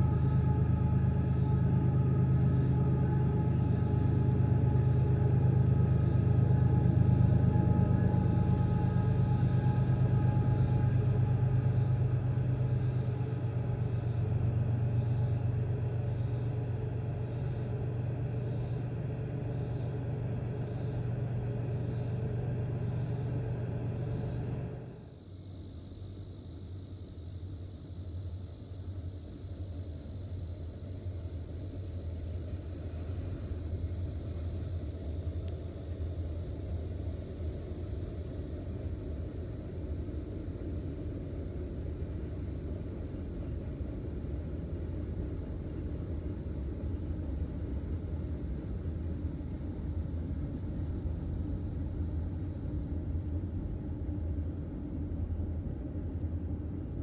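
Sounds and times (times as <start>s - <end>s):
distant diesel train rumbling: 0.0s - 25.1s, 30.2s - 57.0s
insects buzzing: 0.0s - 57.0s.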